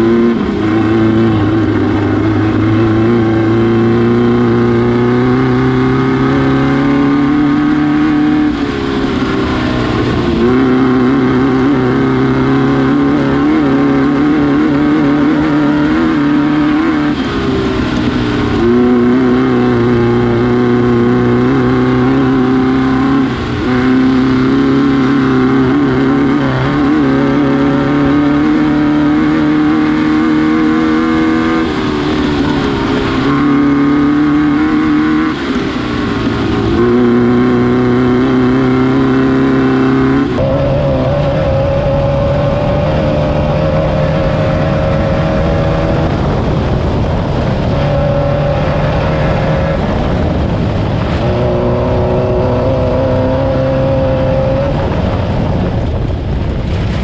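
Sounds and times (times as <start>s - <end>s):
buggy engine running hard: 0.0s - 57.0s
rough terrain noise: 0.0s - 57.0s.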